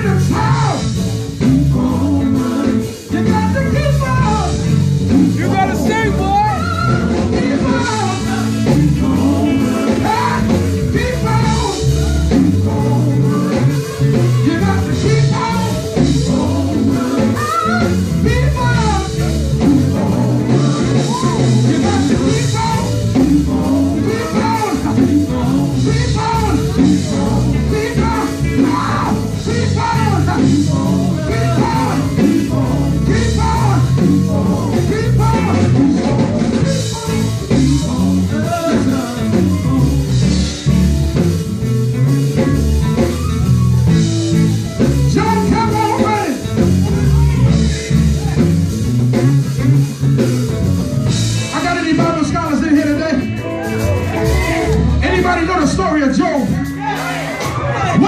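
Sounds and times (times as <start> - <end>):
band with guitar and drums: 0.0 - 58.0
men singing gospel: 0.0 - 58.0.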